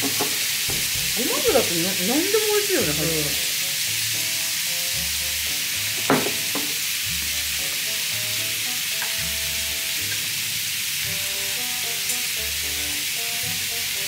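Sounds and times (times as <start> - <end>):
food sizzling on a grill: 0.0 - 14.0
background music with slow beat: 0.6 - 1.6, 3.4 - 14.0.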